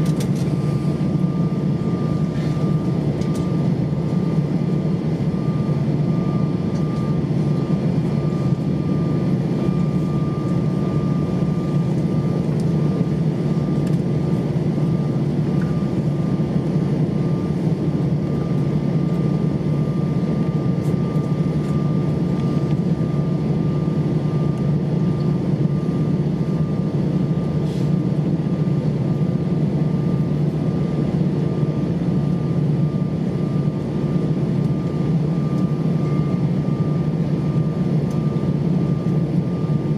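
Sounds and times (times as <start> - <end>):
aircraft cabin engine hum: 0.0 - 39.9
thin steady whine: 0.0 - 39.9.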